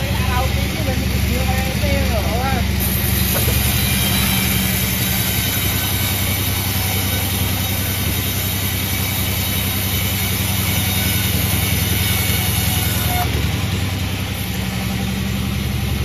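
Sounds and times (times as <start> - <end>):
heavy engine idling: 0.0 - 16.0.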